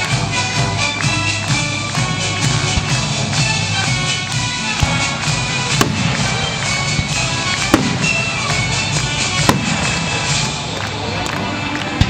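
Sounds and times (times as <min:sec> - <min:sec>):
firework bangs: 0:00.0 - 0:12.0
orchestral music: 0:00.0 - 0:12.0.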